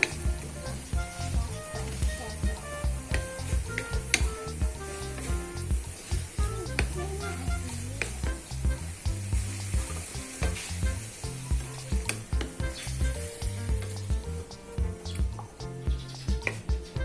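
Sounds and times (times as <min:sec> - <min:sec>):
background music with beat: 0:00.0 - 0:17.0.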